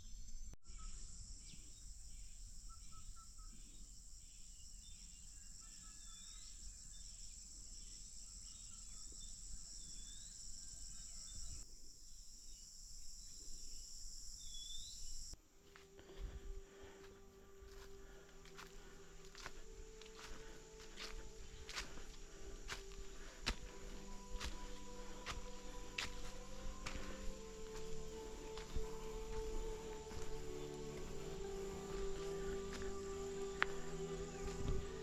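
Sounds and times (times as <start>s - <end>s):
insect chirps: 0.0s - 15.4s, 16.0s - 35.0s
insects buzzing: 0.1s - 15.4s, 16.0s - 35.0s.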